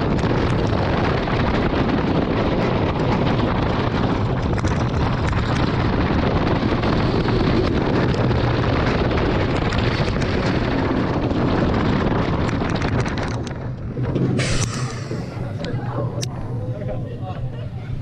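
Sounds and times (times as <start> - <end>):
roller coaster wheels rumbling: 0.0 - 18.0
wind on microphone: 0.0 - 18.0.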